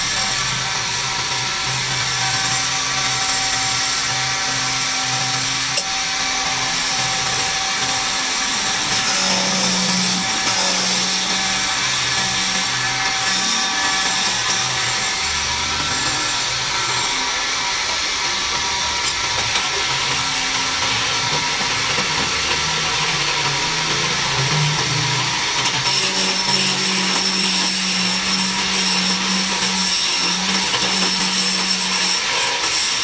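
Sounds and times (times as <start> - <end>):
wood lathe drone: 0.0 - 33.0.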